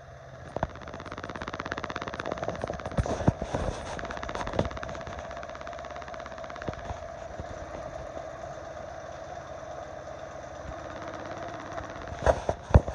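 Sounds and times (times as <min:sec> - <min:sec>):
motorcycle engine idling: 0:00.0 - 0:12.9
fast even ticking: 0:00.5 - 0:12.4.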